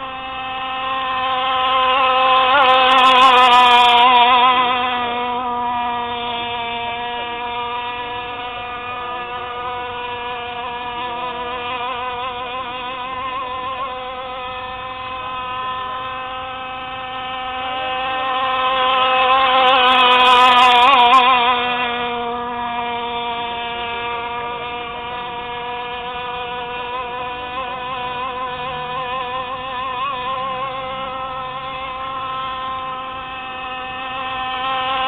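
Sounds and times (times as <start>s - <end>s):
model boat engine buzzing: 0.0s - 35.0s.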